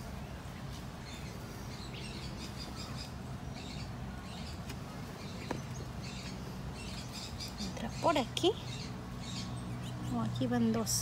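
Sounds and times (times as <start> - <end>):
parakeets chirping: 0.5 - 11.0.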